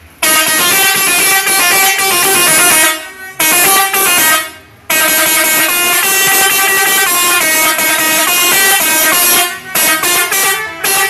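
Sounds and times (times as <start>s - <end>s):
air horn playing a tune: 0.2s - 11.0s.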